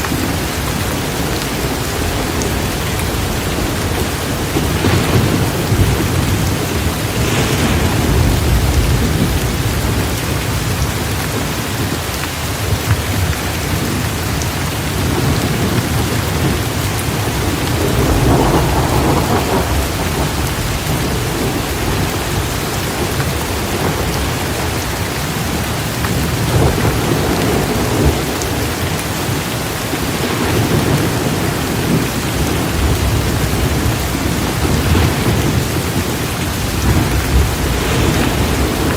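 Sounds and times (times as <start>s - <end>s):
heavy rain pouring: 0.0s - 38.9s
low rolling thunder: 0.0s - 38.9s.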